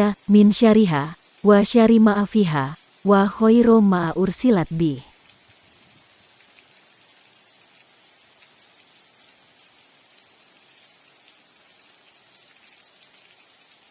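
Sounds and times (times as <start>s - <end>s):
faint rainfall: 0.0s - 13.9s.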